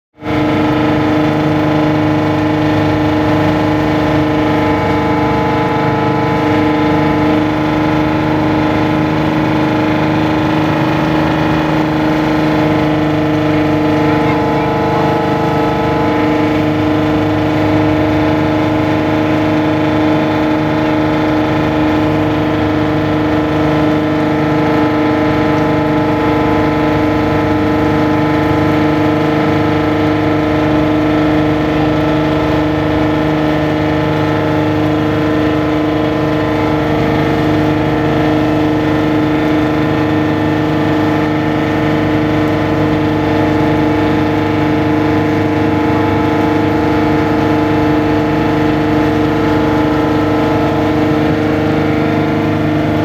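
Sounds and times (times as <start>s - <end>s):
boat engine droning: 0.2s - 53.0s.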